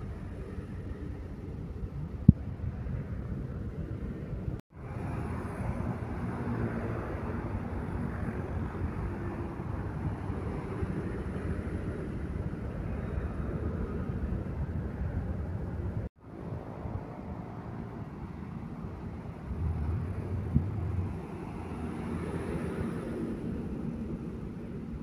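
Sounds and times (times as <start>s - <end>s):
road traffic noise: 0.0s - 25.0s
diesel truck passing by: 4.7s - 25.0s.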